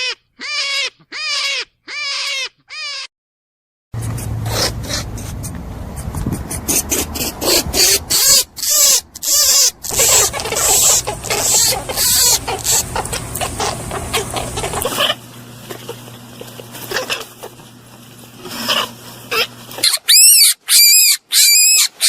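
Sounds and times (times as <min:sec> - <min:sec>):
rabbit squeaking and grunting: 0:00.0 - 0:03.1, 0:04.0 - 0:17.7, 0:18.4 - 0:22.0.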